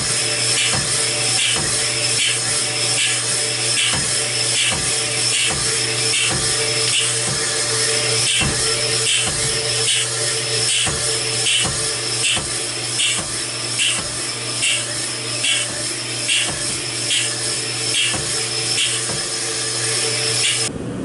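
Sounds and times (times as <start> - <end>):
cylinder hone scraping: 0.0 - 20.7
machine hum: 0.0 - 21.0.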